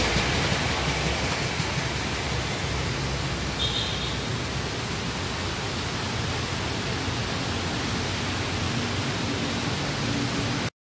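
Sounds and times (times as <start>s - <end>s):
steady rushing outdoor noise: 0.0s - 10.7s.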